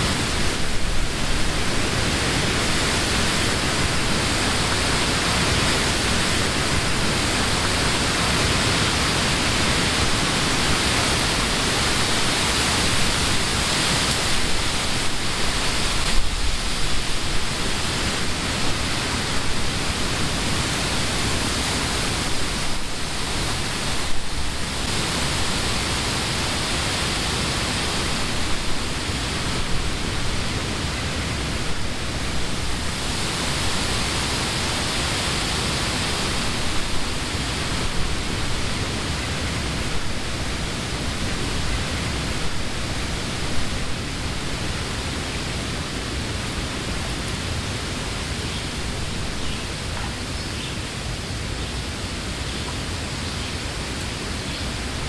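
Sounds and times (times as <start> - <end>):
wind rushing through leaves: 0.0 - 55.0.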